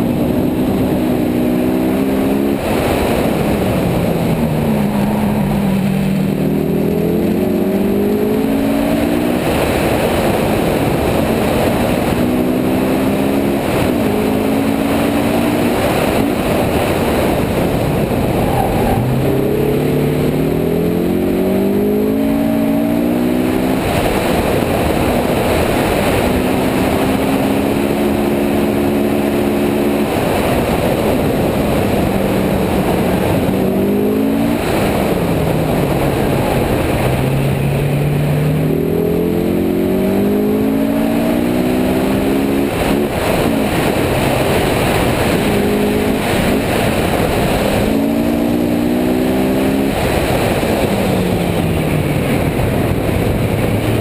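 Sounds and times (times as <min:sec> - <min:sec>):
car engine revving: 0:00.0 - 0:54.0
road noise: 0:00.0 - 0:54.0
wind noise: 0:00.0 - 0:54.0.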